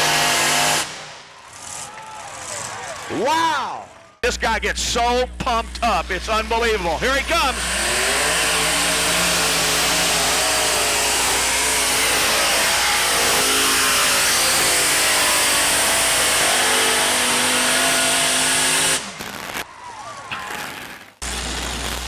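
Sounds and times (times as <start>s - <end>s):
tractor engines running under load: 0.0s - 19.0s.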